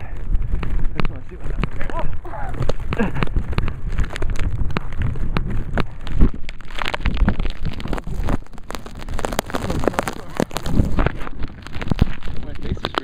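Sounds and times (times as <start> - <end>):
blizzard wind buffeting microphone: 0.0 - 13.0
sharp crackles: 0.0 - 13.0.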